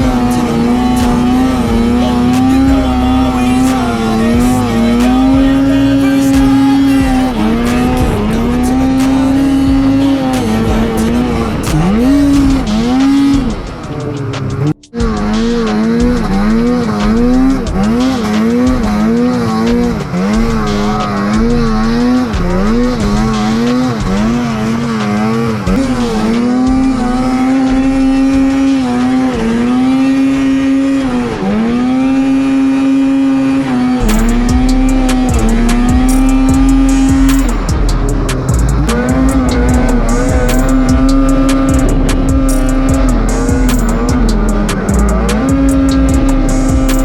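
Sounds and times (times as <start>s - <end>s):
low thumping beat: 0.0s - 25.1s, 25.7s - 28.7s, 34.0s - 47.0s.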